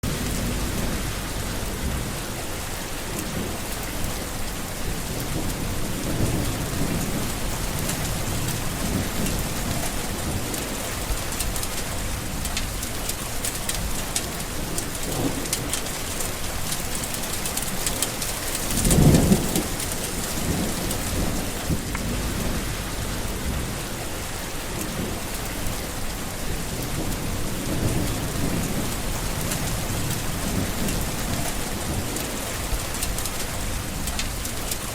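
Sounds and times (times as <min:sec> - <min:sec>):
thunder clap: 0:00.0 - 0:02.4, 0:03.2 - 0:15.9, 0:17.6 - 0:24.1, 0:24.7 - 0:34.6
low rolling thunder: 0:00.0 - 0:34.8
heavy rain falling: 0:00.0 - 0:34.9.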